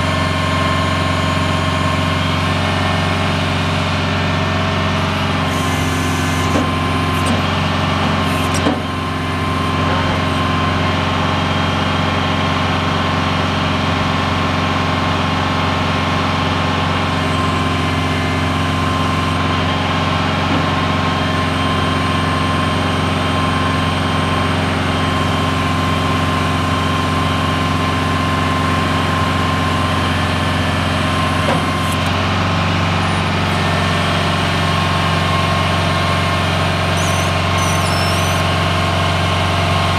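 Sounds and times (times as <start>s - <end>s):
diesel truck engine running: 0.0s - 39.9s
hydraulic crane whine: 0.0s - 39.9s.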